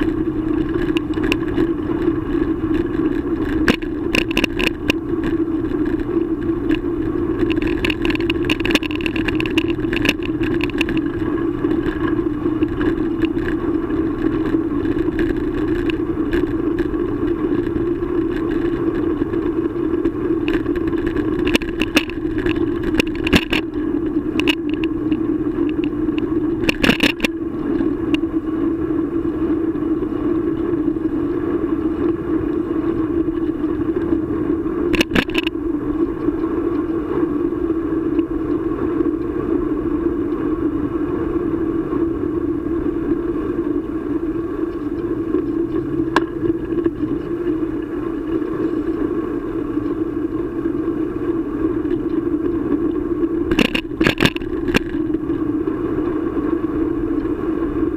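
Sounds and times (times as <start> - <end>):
bicycle wheels rolling hum: 0.0 - 57.9
bike rattling over bumps: 0.0 - 57.9
wind: 0.0 - 57.9.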